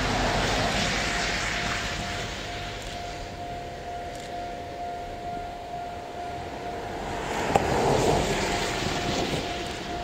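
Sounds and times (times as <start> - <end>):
diesel railcars running: 0.0 - 10.0
steady high hum: 0.0 - 10.0.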